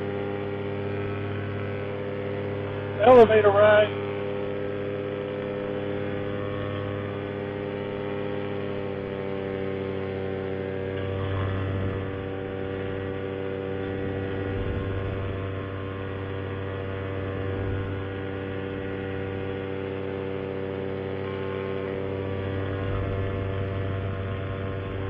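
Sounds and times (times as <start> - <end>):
paramotor engine droning: 0.0 - 25.0.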